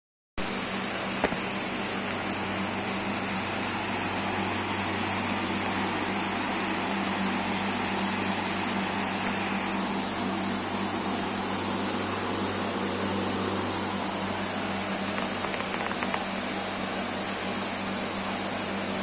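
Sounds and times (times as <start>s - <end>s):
aquarium pump hum: 0.4s - 19.0s.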